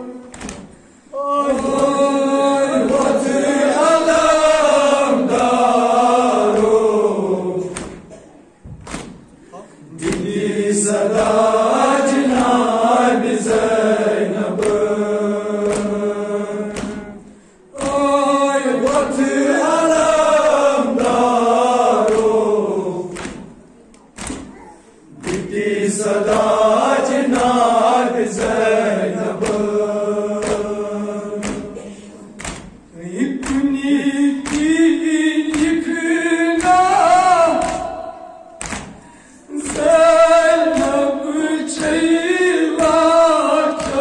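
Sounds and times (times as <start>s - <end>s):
group chanting in unison: 0.0s - 44.0s.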